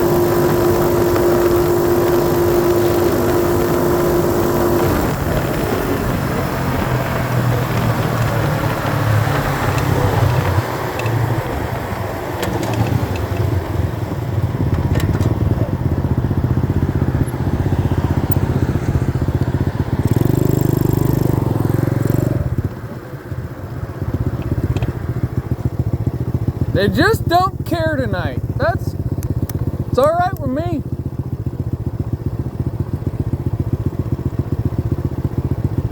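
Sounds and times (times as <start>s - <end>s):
dirt bike engine running: 0.0s - 35.9s.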